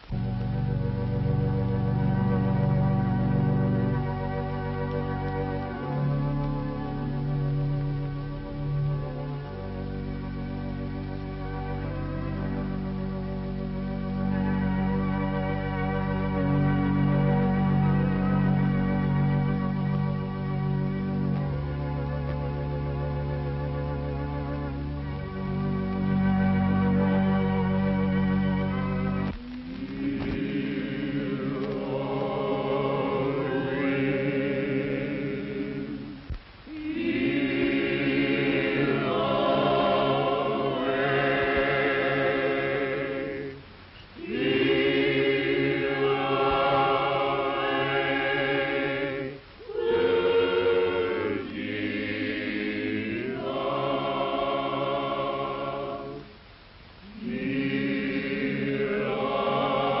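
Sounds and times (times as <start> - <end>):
choir singing: 0.1 - 43.6, 44.2 - 56.4, 57.0 - 60.0.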